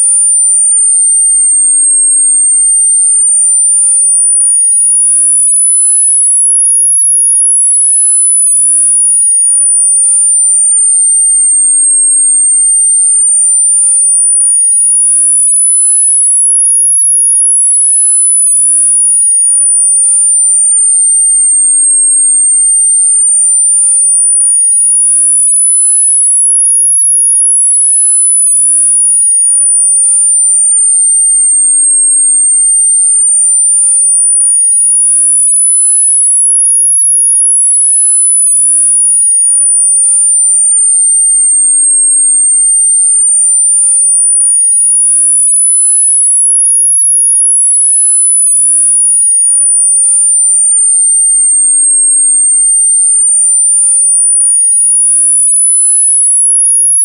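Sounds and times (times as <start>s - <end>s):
high-pitched sine tone sweeping: 0.0s - 57.0s.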